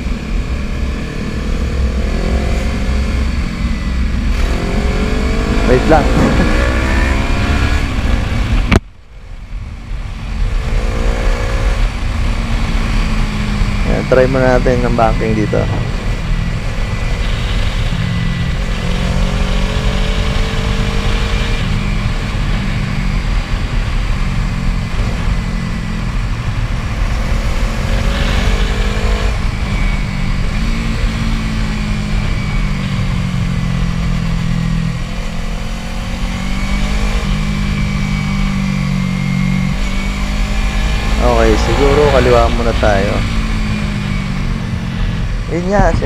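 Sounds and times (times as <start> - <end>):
motorcycle engine revving: 0.0 - 8.9, 9.5 - 46.0.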